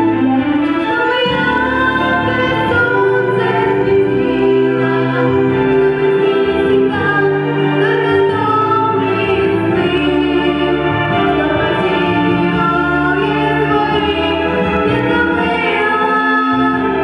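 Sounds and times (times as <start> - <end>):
pop song with choir-like vocals: 0.0 - 17.0.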